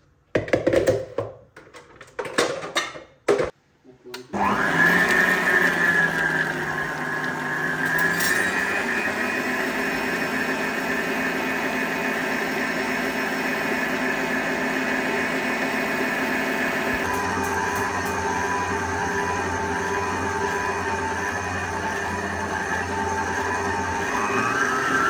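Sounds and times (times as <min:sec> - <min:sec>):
stand mixer motor whine: 0:04.4 - 0:25.0.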